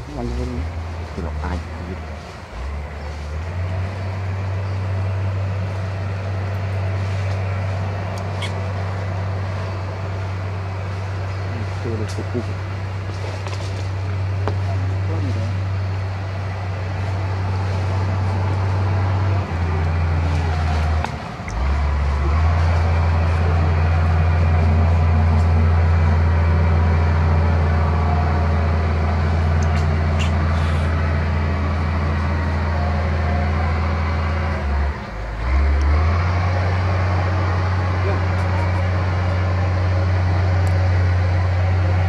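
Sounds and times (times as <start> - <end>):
vehicle engine hum: 0.0 - 42.0.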